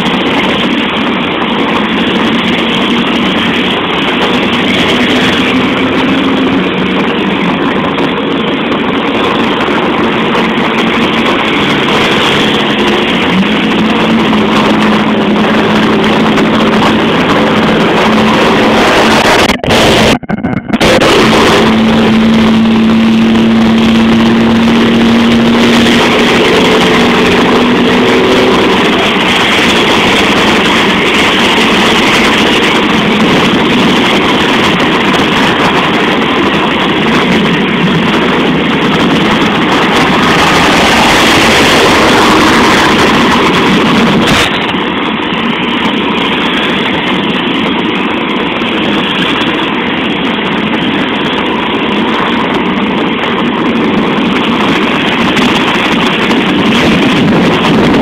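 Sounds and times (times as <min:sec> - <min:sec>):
traffic engine hum: 0:00.0 - 0:58.0.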